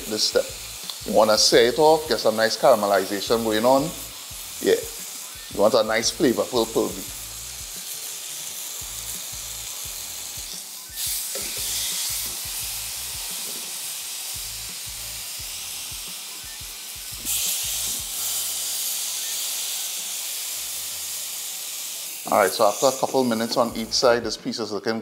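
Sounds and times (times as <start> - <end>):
beef sizzling in frying pan: 0.0 - 24.2.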